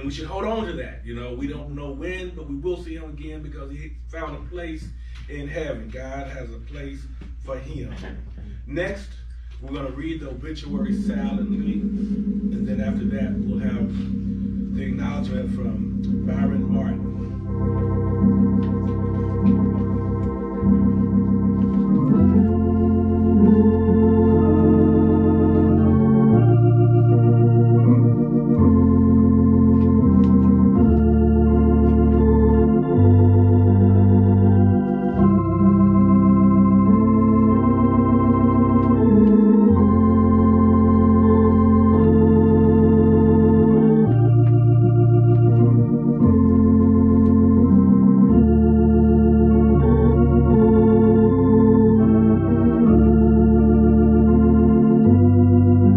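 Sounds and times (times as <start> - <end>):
organ playing sustained chords: 0.0 - 55.9.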